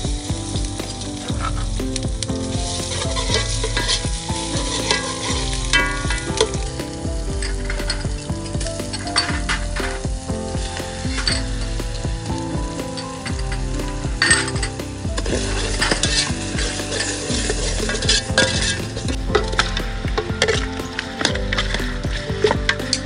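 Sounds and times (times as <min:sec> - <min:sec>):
metal ladle scraping pot: 0:00.0 - 0:23.0
paste sizzling in oil: 0:00.0 - 0:23.0.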